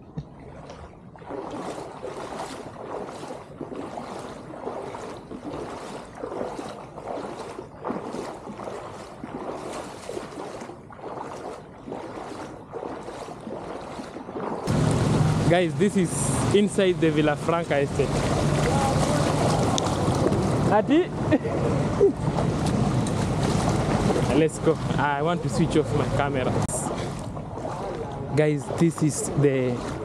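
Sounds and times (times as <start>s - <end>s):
floodwater rushing and splashing: 0.3s - 30.0s.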